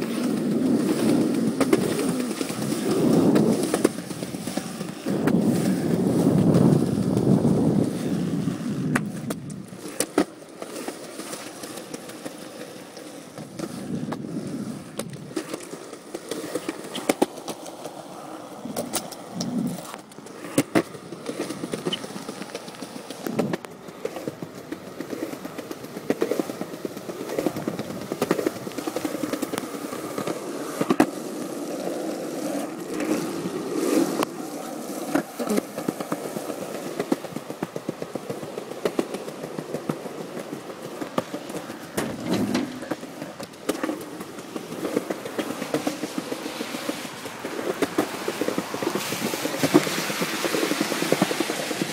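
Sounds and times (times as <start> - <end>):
skateboard clacking over cracks: 0.0 - 51.9
skateboard wheels rolling on pavement: 0.0 - 51.9.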